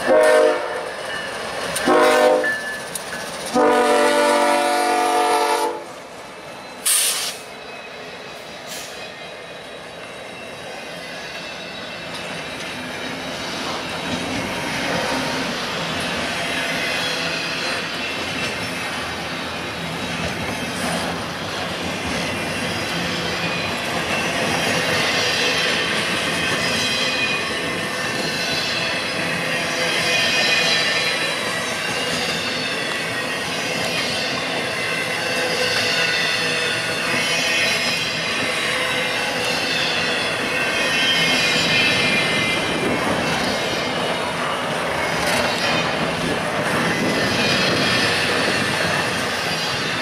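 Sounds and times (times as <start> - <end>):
locomotive diesel engines: 0.0 - 50.0
train wheels rumbling on rail: 0.0 - 50.0.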